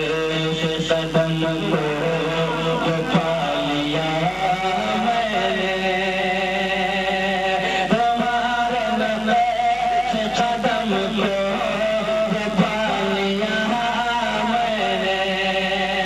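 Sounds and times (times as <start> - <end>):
man singing devotional song: 0.0 - 16.0.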